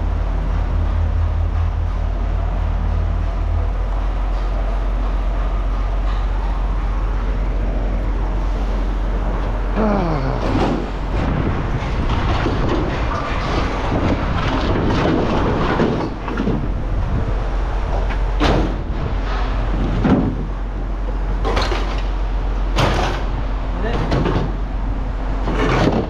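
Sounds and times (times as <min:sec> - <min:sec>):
mechanical rumble with low hum: 0:00.0 - 0:26.0.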